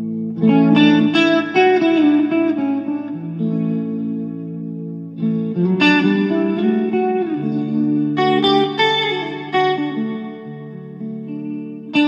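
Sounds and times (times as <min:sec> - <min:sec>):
guitar with effects: 0:00.0 - 0:12.0.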